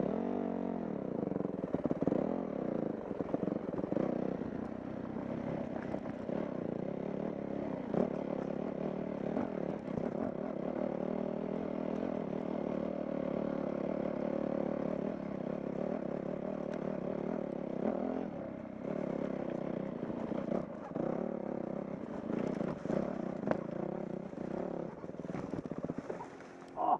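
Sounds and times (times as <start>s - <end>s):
dirt bike engine running: 0.0s - 26.9s.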